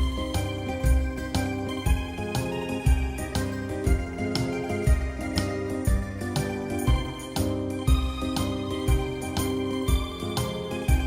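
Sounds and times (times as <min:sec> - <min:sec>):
keyboard instrumental music with beat: 0:00.0 - 0:11.0.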